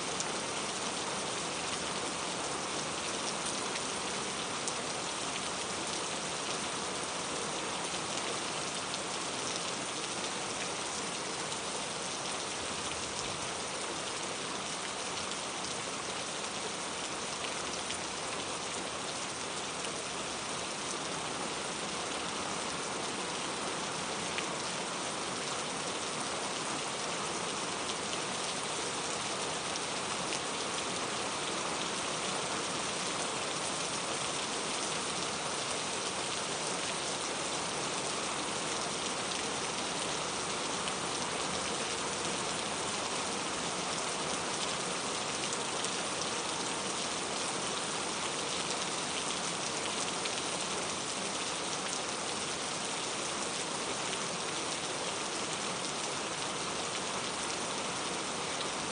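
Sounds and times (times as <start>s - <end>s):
rain on hard surfaces: 0.0s - 58.9s.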